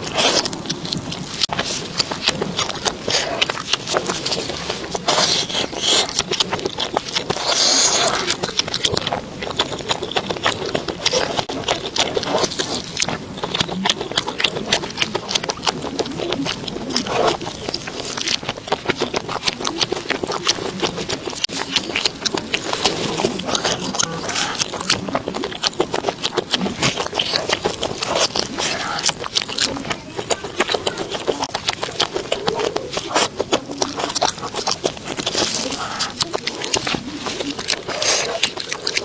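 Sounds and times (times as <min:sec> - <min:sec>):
chewing crunches: 0:00.0 - 0:39.0.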